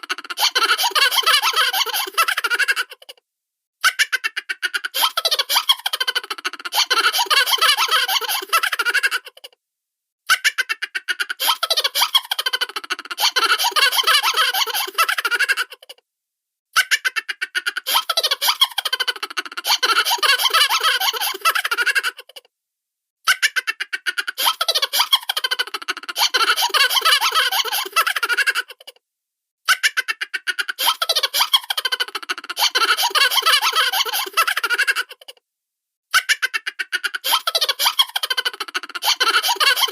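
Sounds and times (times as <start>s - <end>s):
high-pitched cartoon giggling: 0.0s - 3.2s, 3.8s - 9.6s, 10.3s - 16.0s, 16.8s - 22.5s, 23.3s - 29.0s, 29.7s - 35.4s, 36.1s - 39.9s.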